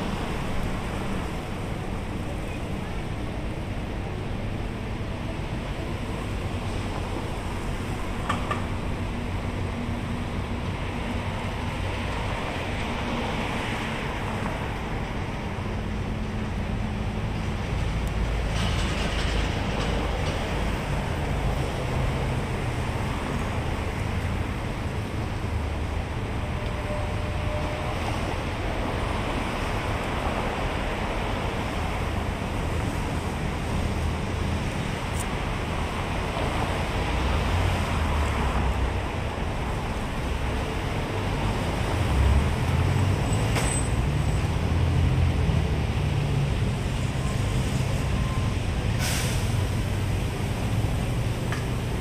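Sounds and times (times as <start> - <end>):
road traffic rumble and hiss: 0.0 - 52.0.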